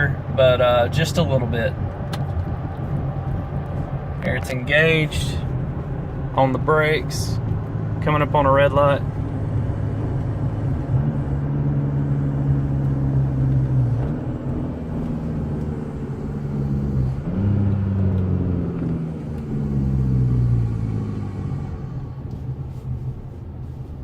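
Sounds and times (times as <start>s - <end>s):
diesel engine decelerating: 0.0s - 24.0s.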